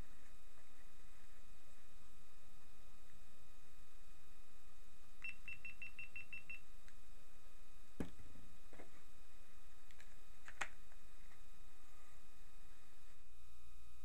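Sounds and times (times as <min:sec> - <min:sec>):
faint high electronic whine: 0:00.0 - 0:14.0.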